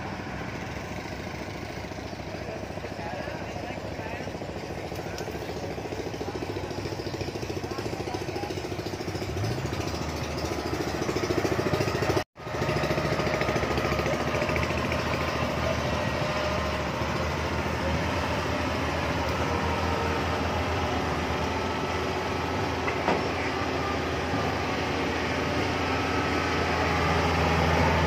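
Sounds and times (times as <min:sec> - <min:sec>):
combine harvester diesel engines: 0:00.0 - 0:28.0.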